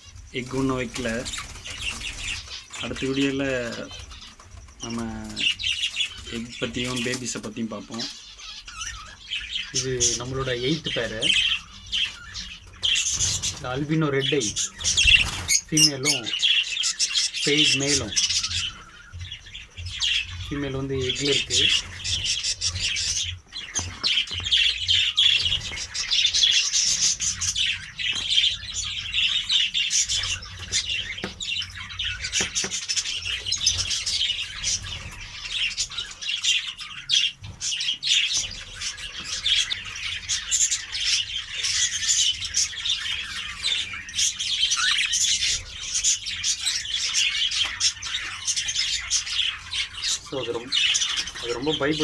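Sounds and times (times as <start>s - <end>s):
budgerigars chirping and squawking: 0.0s - 52.0s.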